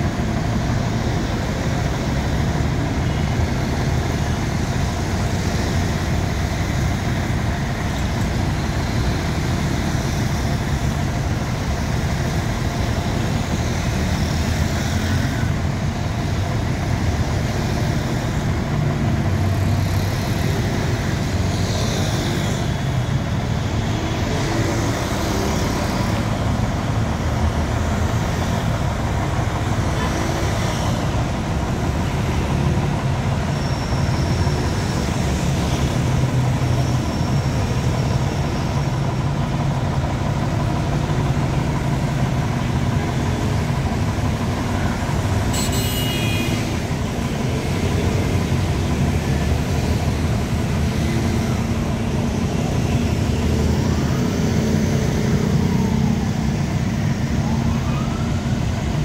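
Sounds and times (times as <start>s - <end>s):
heavy vehicle engine running: 0.0s - 59.0s
vehicles passing: 0.0s - 59.0s.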